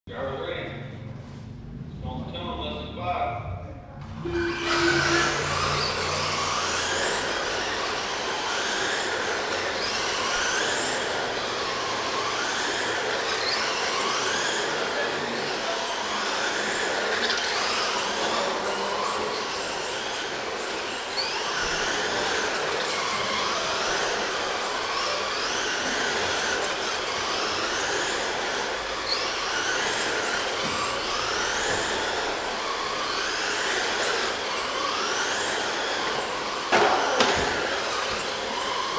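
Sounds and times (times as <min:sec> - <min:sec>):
rc truck motors whining: 0:04.0 - 0:38.9
trucks running on track: 0:04.0 - 0:38.9.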